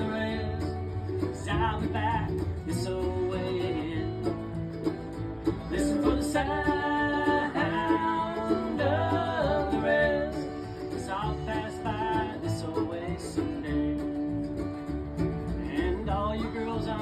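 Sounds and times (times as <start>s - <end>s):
bluegrass band playing: 0.0s - 17.0s
sliding lead melody: 0.0s - 17.0s.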